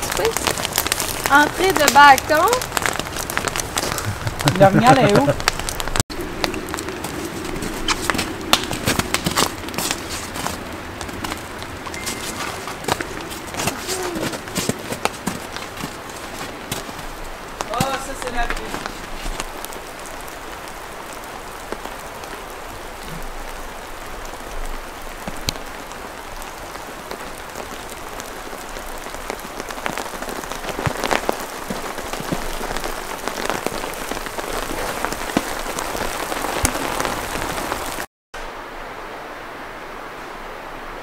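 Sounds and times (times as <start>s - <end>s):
raindrops ticking: 0.0s - 38.1s
steady rain hiss: 0.0s - 41.0s.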